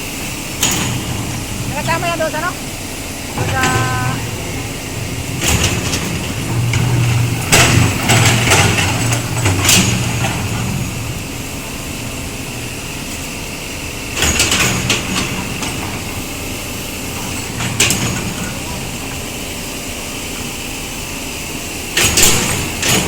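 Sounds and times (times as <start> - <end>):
diesel engine running: 0.0 - 22.8.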